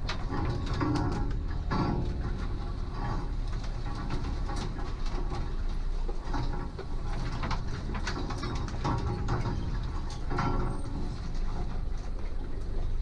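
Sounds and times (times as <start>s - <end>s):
branches scraping and snapping: 0.0s - 12.7s.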